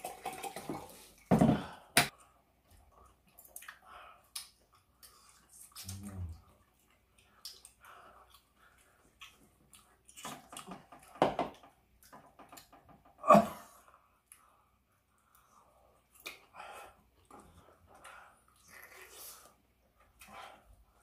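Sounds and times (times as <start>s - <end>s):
person chewing food: 2.1s - 12.8s, 13.9s - 21.0s.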